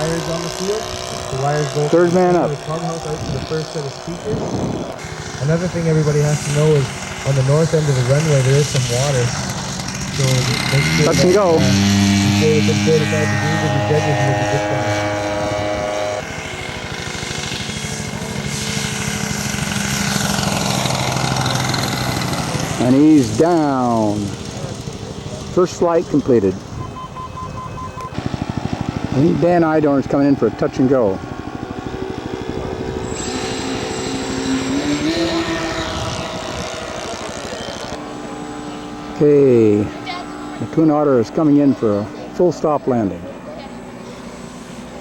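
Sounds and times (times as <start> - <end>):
model airplane engine droning: 0.0 - 45.0.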